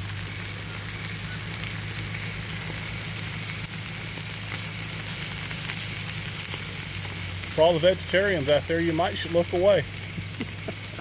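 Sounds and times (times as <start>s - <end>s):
steaks sizzling on a grill: 0.0s - 11.0s.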